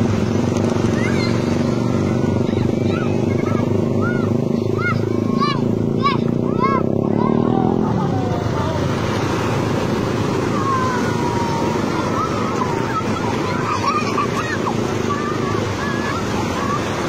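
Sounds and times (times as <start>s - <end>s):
children calling and shouting: 0.0s - 17.0s
surf washing up a beach: 0.0s - 17.0s.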